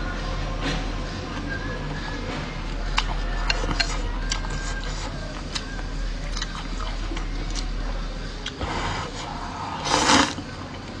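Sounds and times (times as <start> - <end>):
chewing: 0.6 - 11.0.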